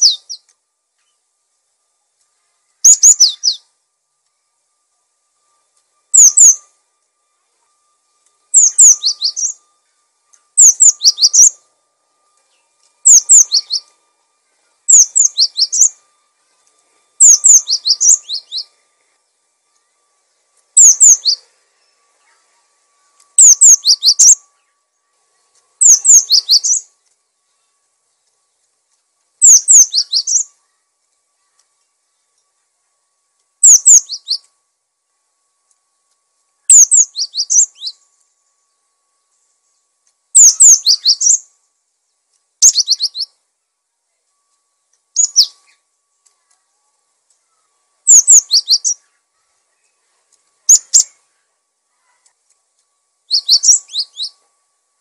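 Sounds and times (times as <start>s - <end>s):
bird singing high falling notes: 0.0s - 28.7s, 29.3s - 34.6s, 35.2s - 43.4s, 44.3s - 52.2s, 53.0s - 55.0s.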